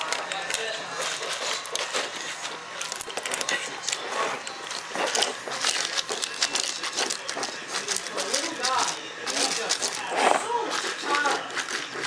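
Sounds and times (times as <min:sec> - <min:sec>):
dog crunching ice: 0:00.0 - 0:12.0.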